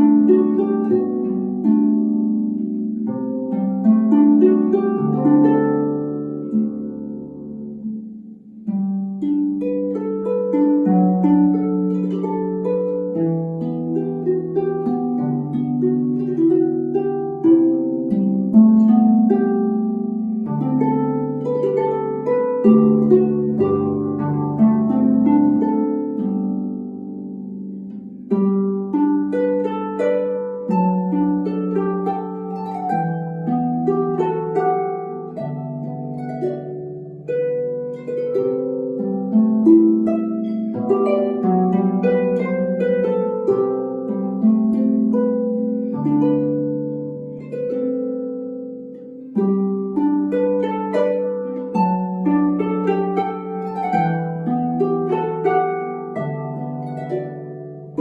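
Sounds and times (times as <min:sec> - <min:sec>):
solo harp playing: 0:00.0 - 0:58.0.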